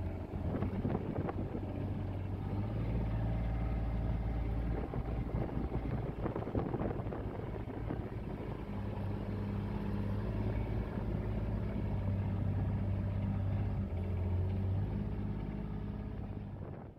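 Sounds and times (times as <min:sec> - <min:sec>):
utility vehicle engine running: 0:00.0 - 0:16.9.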